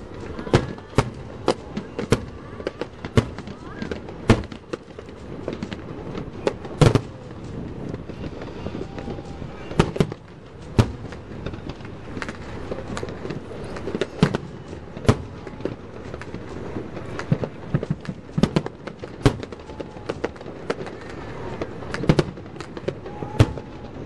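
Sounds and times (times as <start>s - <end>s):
fireworks bursting: 0.0s - 24.0s
fireworks crackling: 0.0s - 24.0s.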